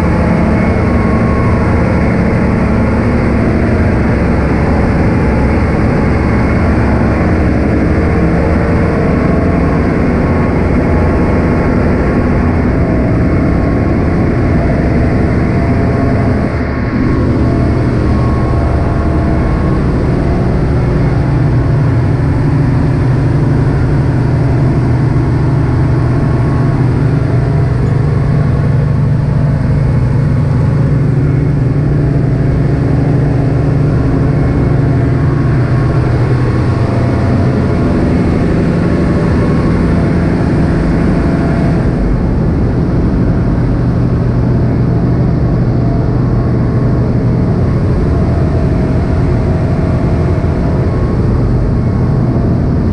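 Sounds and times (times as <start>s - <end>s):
ship machinery humming: 0.0s - 52.9s.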